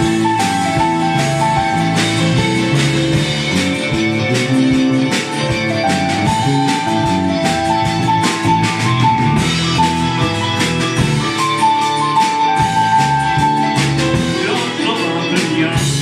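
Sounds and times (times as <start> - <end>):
country rock band playing: 0.0 - 16.0.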